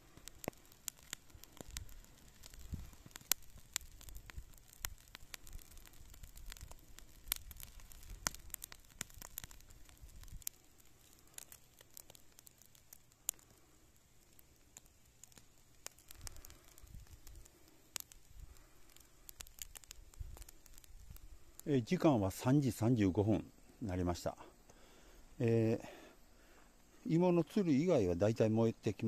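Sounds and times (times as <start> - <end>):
dry weeds burning and crackling: 0.0 - 29.0.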